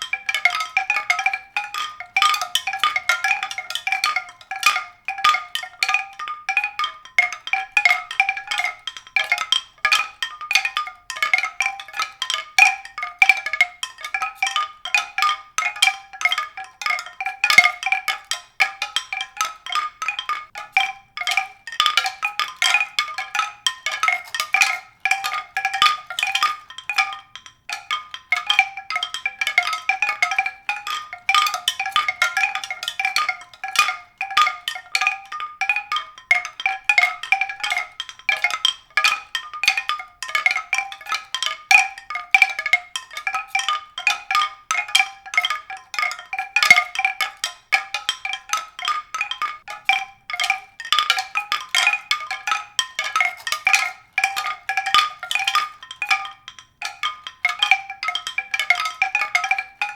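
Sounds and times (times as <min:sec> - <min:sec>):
tuned percussion notes: 0:00.0 - 0:59.9.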